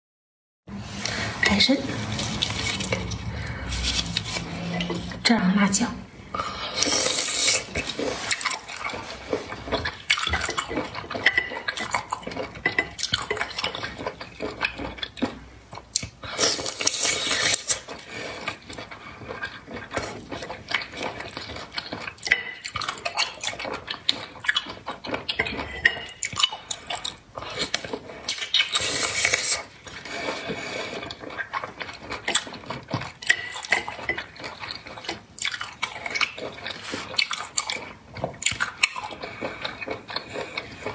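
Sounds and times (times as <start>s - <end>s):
wet squishing of food: 0.7s - 5.2s, 6.2s - 40.9s.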